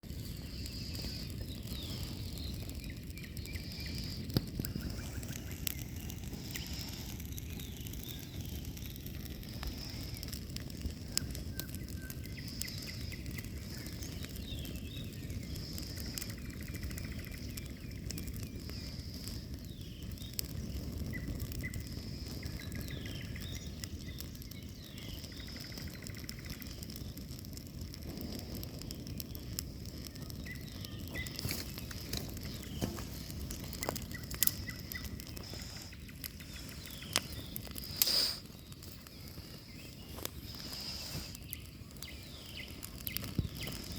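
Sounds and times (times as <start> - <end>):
campfire crackling and popping: 0.0 - 43.9
songbirds singing: 0.1 - 43.9.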